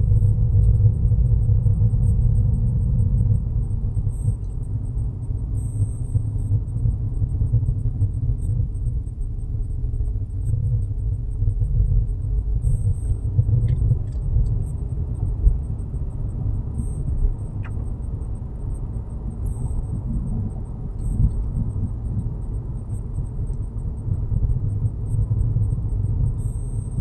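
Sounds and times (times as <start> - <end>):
car buzzing rumble: 0.0 - 27.0.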